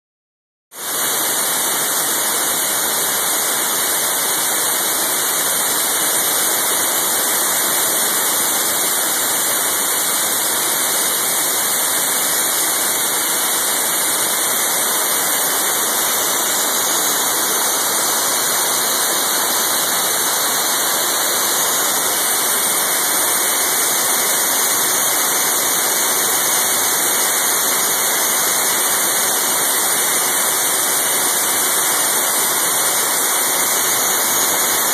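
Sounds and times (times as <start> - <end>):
loud steady hiss: 0.8 - 34.9.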